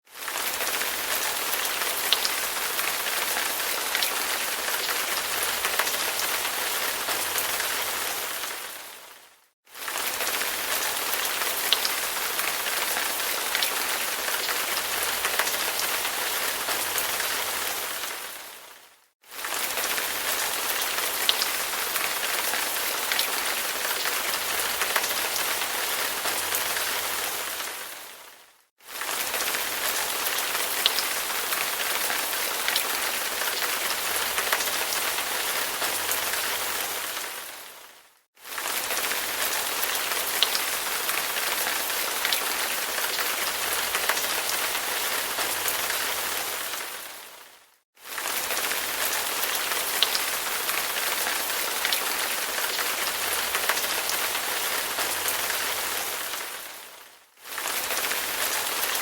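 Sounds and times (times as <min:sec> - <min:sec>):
steady rain falling: 0:00.1 - 0:59.0.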